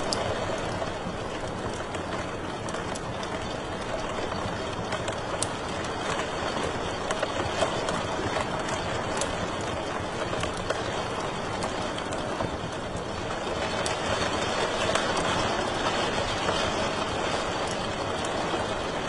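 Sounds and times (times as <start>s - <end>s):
fire popping and snapping: 0.0s - 19.0s.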